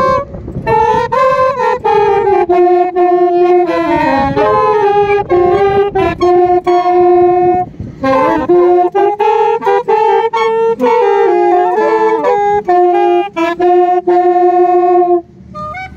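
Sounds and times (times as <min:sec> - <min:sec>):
saxophones and clarinet in harmony: 0:00.0 - 0:15.9.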